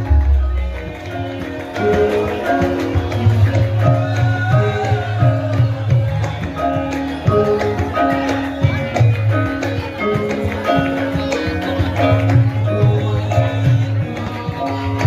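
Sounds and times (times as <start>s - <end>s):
hand drum beats: 0.0s - 15.0s
struck pitched percussion tones: 0.0s - 15.0s.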